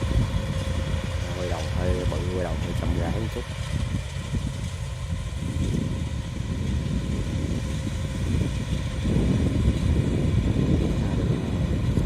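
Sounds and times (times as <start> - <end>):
combine harvester rumble: 0.0 - 12.0.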